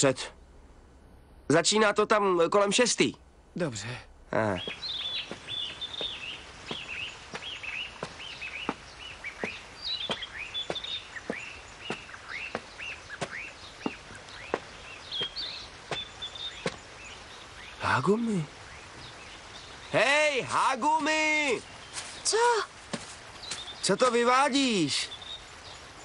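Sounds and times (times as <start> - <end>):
small birds chirping: 1.4 - 26.0.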